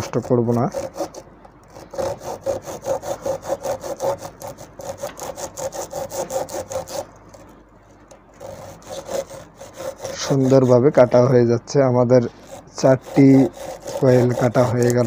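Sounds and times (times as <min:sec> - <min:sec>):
hacksaw cutting copper wire: 0:00.0 - 0:07.5, 0:08.1 - 0:11.3, 0:12.4 - 0:15.0.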